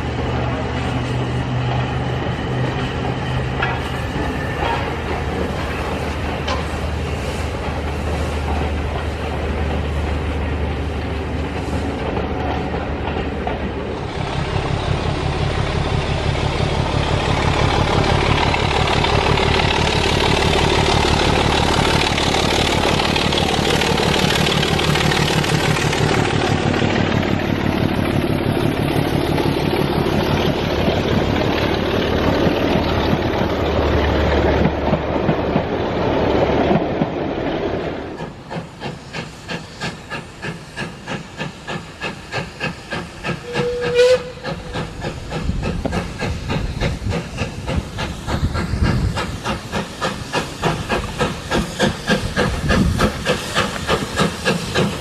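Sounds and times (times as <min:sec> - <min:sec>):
train passing: 0:00.0 - 0:55.0
wheels clicking over rail joints: 0:03.5 - 0:37.2, 0:38.0 - 0:55.0.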